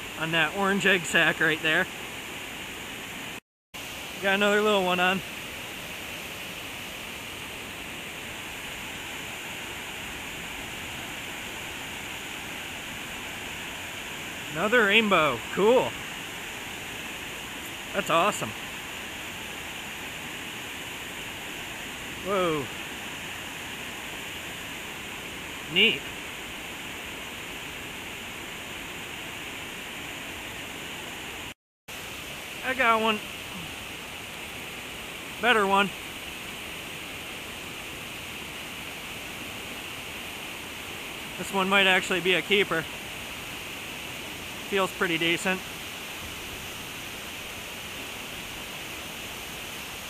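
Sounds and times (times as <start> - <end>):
water rushing over small waterfall: 0.0 - 50.0.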